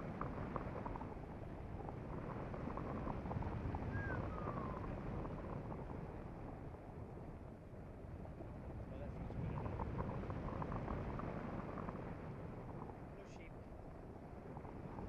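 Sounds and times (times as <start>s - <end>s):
wind rushing over microphone: 0.0s - 13.2s, 13.8s - 15.0s.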